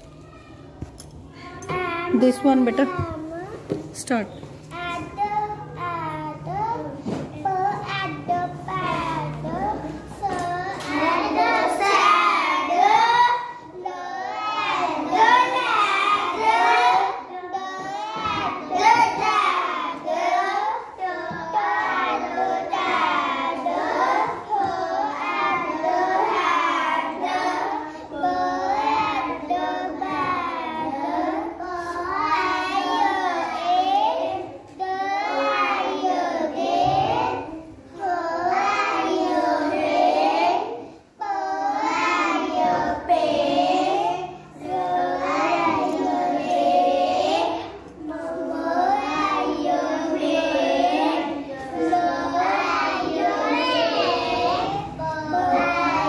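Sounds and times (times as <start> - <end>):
girl reading aloud in sing-song: 0.0 - 56.0.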